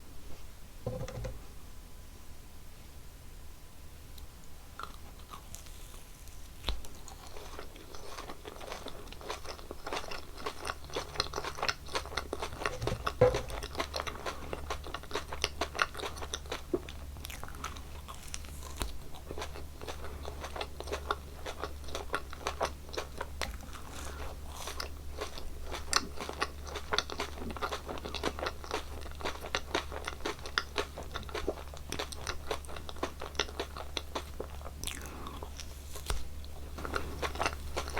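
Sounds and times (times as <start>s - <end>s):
chewing gummy candies: 4.8s - 37.9s.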